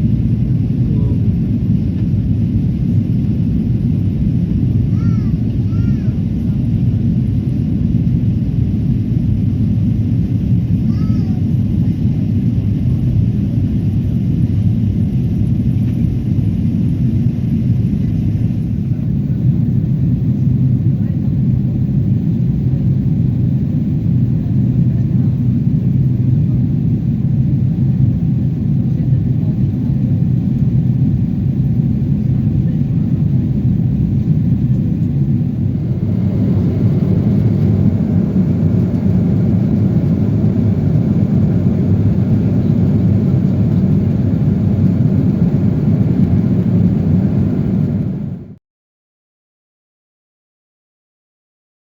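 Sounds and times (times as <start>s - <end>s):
airplane cabin engine rumble: 0.0s - 48.6s.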